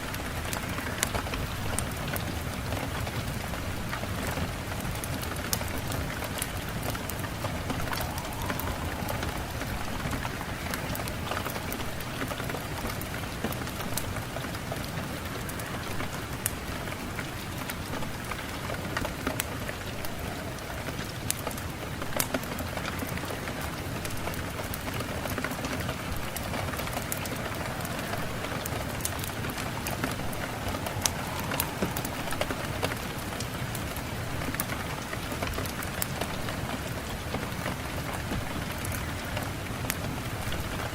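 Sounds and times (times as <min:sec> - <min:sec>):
rain drops ticking: 0:00.0 - 0:40.9
steady rain hissing: 0:00.0 - 0:40.9.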